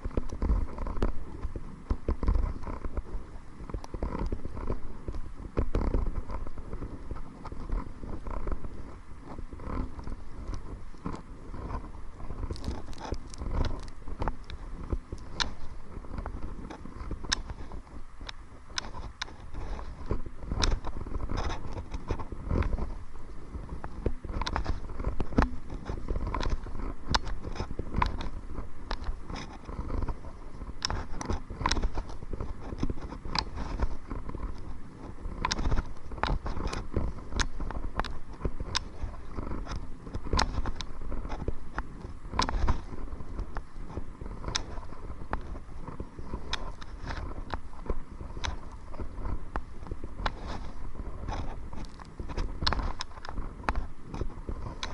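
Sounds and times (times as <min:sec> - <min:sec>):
wind rumbling on microphone: 0:00.0 - 0:54.9.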